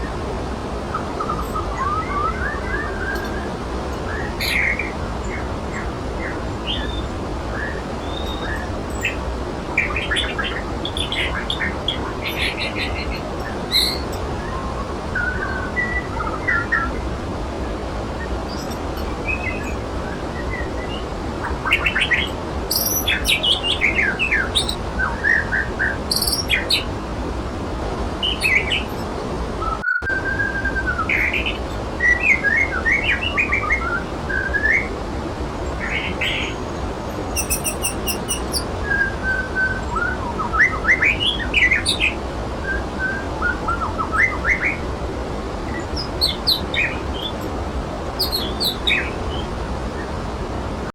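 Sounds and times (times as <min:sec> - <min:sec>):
songbirds chirping: 0:00.0 - 0:50.9
waterfall rushing: 0:00.0 - 0:50.9.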